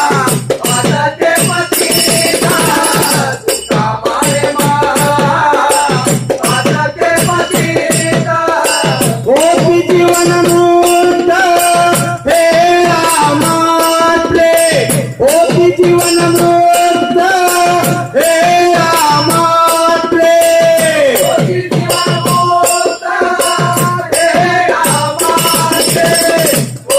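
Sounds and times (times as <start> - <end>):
percussion with jingling rattle: 0.0 - 26.9.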